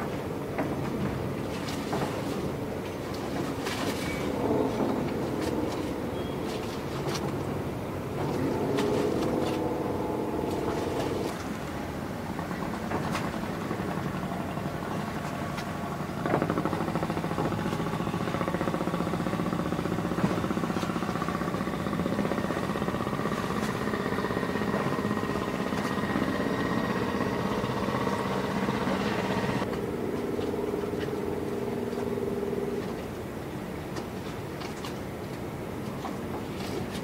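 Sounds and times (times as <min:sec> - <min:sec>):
boat engines running: 0:00.0 - 0:37.0.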